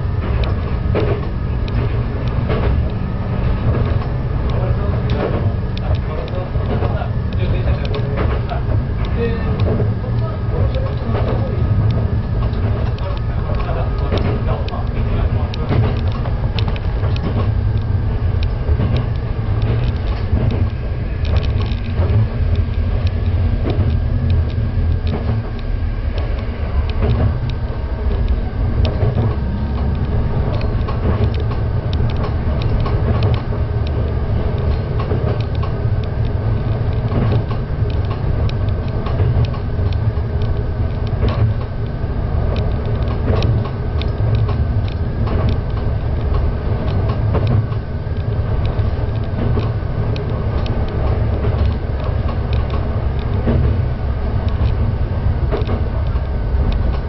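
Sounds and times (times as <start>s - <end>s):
railcar rumbling: 0.0s - 57.0s
clicks and rattles: 0.2s - 57.0s.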